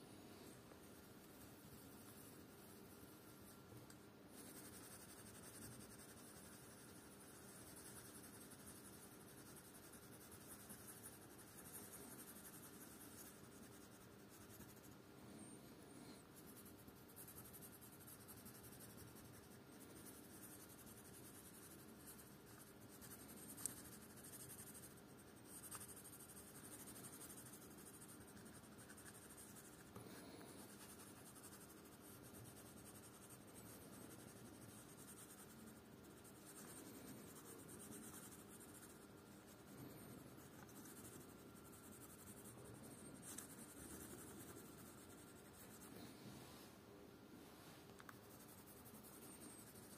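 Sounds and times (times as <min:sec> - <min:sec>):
pencil scratching on paper: 0:00.2 - 0:03.7, 0:04.3 - 0:46.2, 0:48.1 - 0:49.9.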